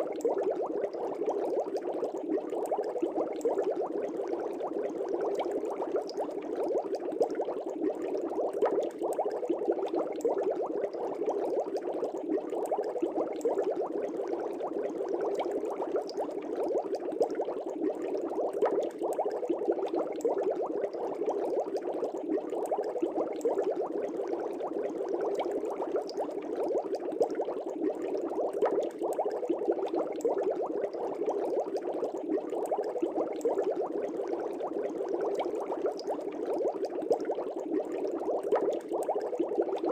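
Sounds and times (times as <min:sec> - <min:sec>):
aquarium air bubbles: 0:00.0 - 0:39.9.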